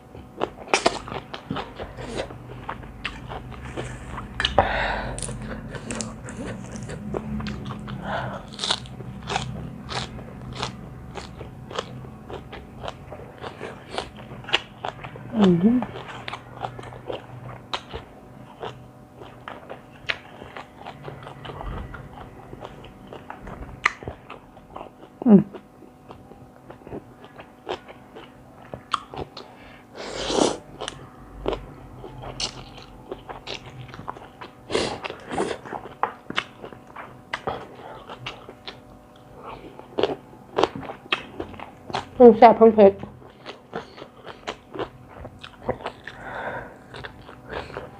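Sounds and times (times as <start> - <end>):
food crunching: 0.1 - 29.6, 30.4 - 42.2, 43.0 - 47.9
wet chewing and biting: 0.4 - 15.2, 15.8 - 29.6, 30.8 - 42.2, 43.1 - 47.9.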